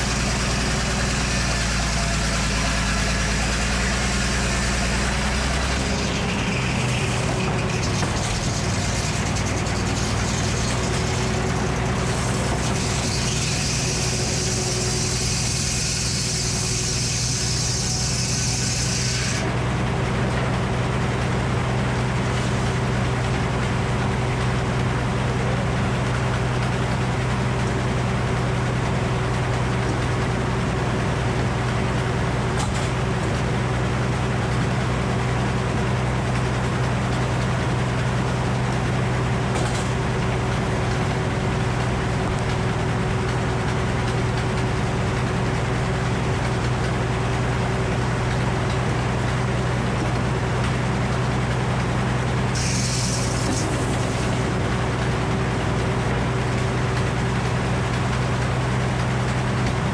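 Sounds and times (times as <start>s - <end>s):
sawmill saw blade humming: 0.0s - 59.9s.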